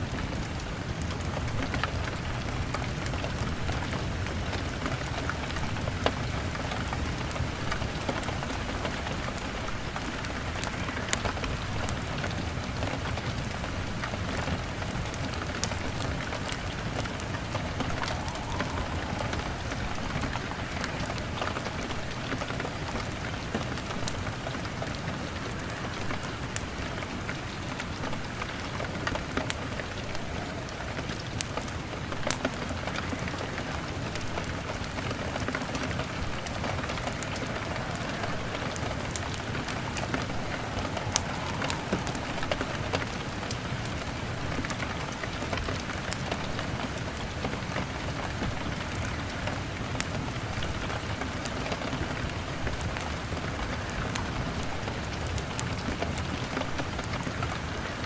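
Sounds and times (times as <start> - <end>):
log fire crackling: 0.0 - 58.0
rain on window pane: 0.0 - 58.0.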